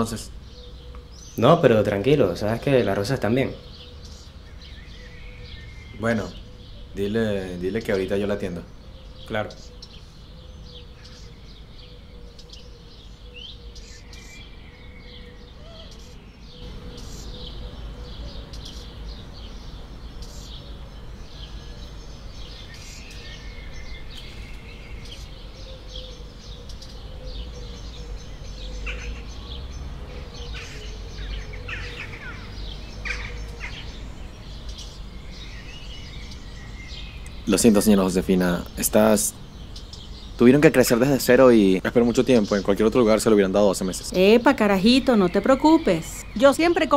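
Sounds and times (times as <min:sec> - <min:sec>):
faint steady hum: 0:00.0 - 0:46.9
outdoor background noise: 0:00.0 - 0:46.9
small birds chirping: 0:00.0 - 0:46.9.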